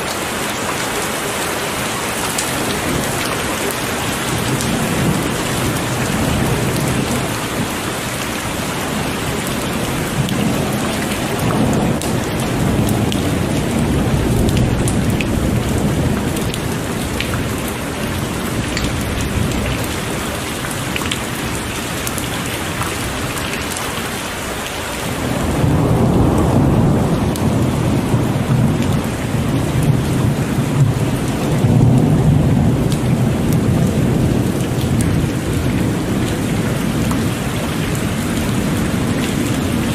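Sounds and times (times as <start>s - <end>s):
heavy rain pouring: 0.0s - 39.9s
thunder rumbling: 2.1s - 23.8s, 24.4s - 39.9s.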